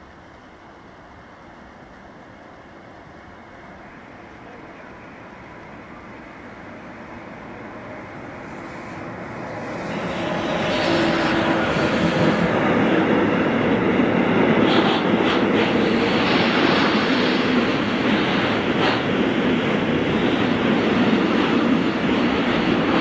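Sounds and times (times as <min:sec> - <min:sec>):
train rolling past rumble: 0:00.0 - 0:23.0.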